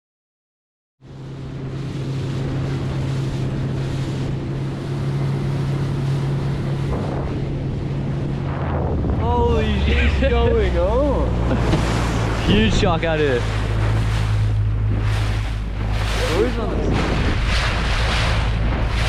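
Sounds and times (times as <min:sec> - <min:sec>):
boat engine humming: 0:01.0 - 0:19.0
water rushing past: 0:01.1 - 0:19.0
wind buffeting microphone: 0:01.2 - 0:19.0.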